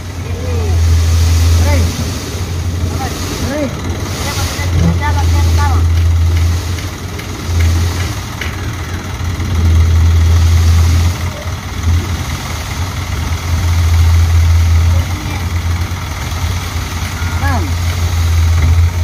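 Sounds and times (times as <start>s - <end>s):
sand unloading: 0.0s - 19.0s
truck engine droning: 0.0s - 19.0s.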